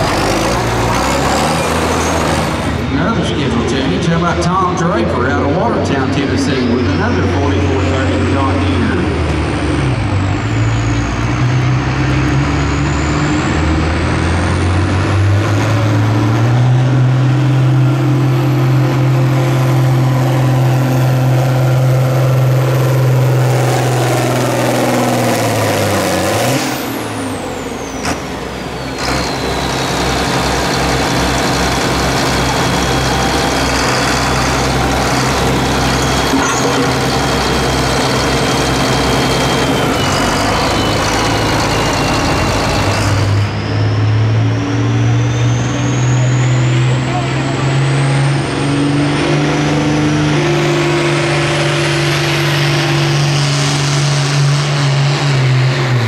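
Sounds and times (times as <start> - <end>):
tractor diesel engine at full throttle: 0.0 - 56.0.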